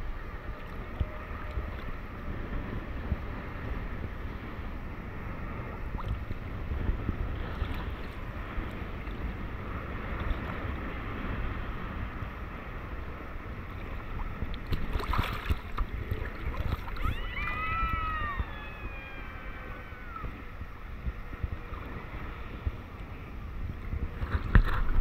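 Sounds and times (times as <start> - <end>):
jet airliner engine whine: 0.0 - 25.0
rumble of water and wind: 0.0 - 25.0.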